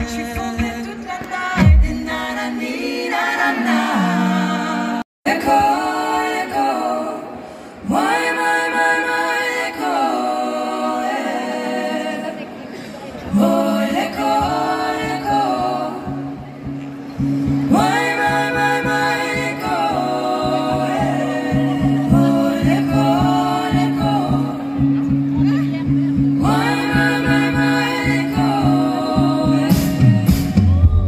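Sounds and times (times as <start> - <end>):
women singing in harmony: 0.0 - 31.0.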